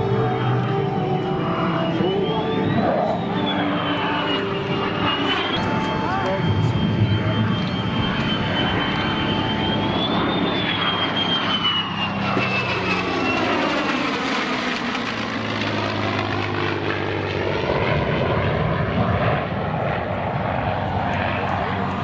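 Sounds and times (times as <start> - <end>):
jet roar with high whine: 0.0 - 22.0
piston engine and propeller drone: 0.0 - 22.0.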